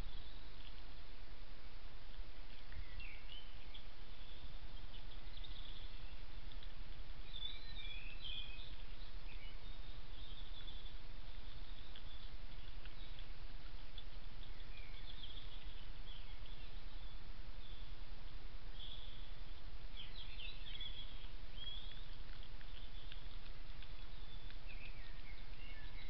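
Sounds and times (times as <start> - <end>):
songbird warbling and chirping: 0.0 - 0.8, 2.5 - 18.0, 18.7 - 26.0.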